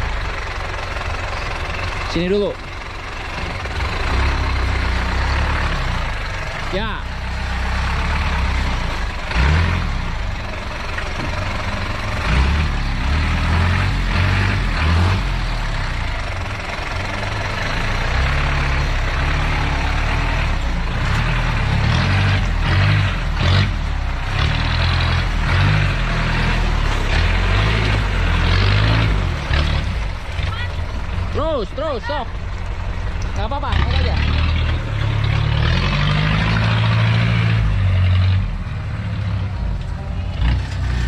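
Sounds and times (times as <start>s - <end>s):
off-road vehicle engine rumbling: 0.0s - 41.0s.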